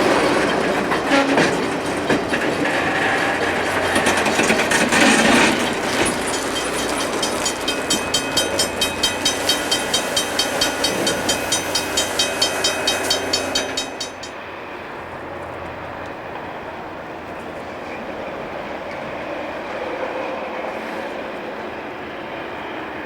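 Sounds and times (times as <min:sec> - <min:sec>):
rail grinding train passing: 0:00.0 - 0:23.0.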